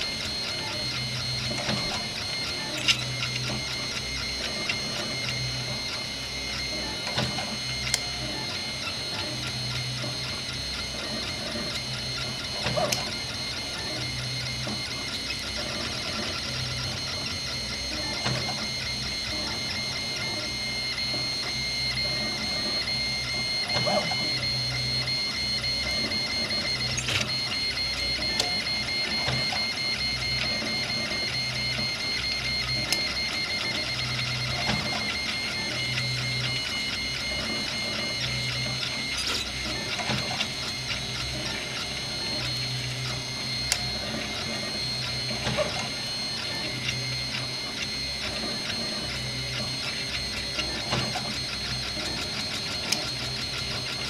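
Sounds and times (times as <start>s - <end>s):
stepper motors whining: 0.0s - 54.0s.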